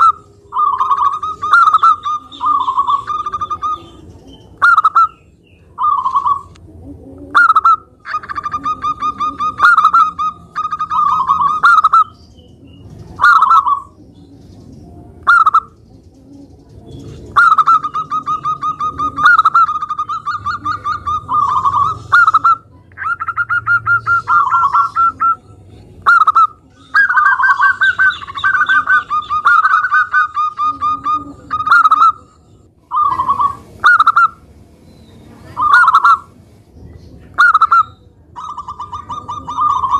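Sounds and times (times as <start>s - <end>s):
dove cooing and trilling: 0.0s - 34.5s, 35.4s - 36.4s, 37.3s - 39.9s.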